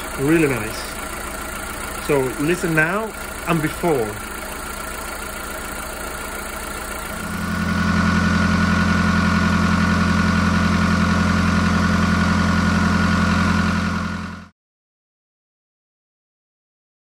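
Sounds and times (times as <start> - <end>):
car engine idling: 0.0 - 14.5.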